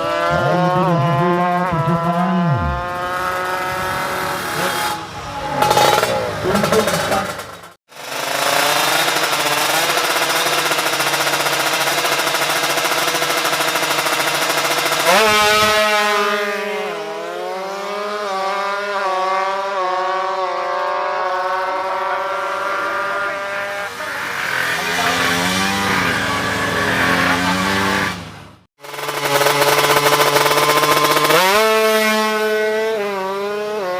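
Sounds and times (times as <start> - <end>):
two-stroke motorcycle engine revving: 0.0 - 33.9.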